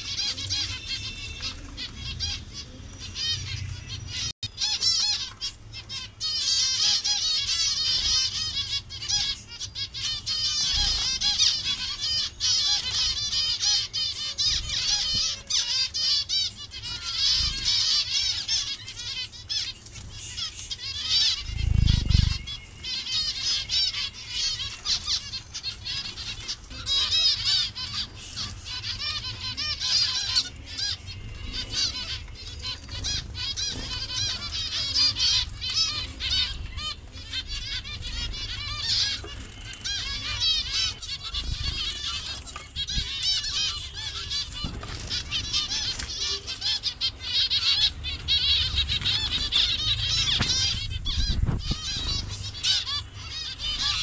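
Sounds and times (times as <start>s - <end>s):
finches chirping: 0.0s - 54.0s.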